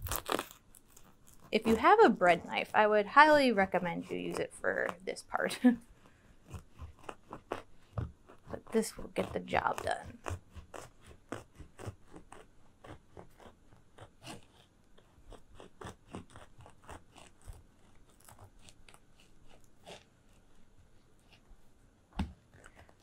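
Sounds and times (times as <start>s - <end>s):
knife sawing through bread crust: 1.0s - 21.5s.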